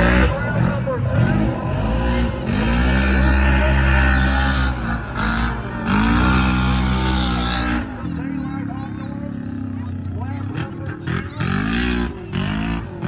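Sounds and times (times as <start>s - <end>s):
monster truck engines roaring: 0.0s - 13.0s.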